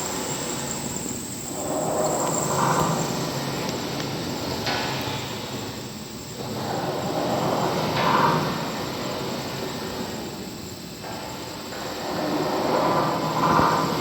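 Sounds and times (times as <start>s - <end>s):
factory machine grinding and groaning: 0.0s - 14.0s.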